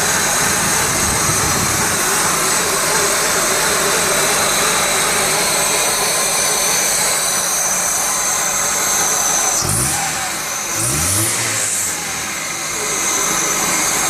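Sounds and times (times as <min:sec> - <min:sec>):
car engine idling with misfire: 0:00.0 - 0:14.0.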